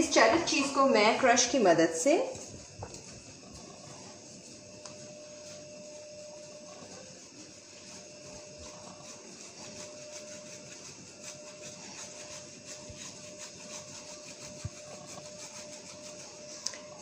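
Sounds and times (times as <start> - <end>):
cheese rasping on a grater: 0.0 - 17.0
faint hum: 0.0 - 17.0.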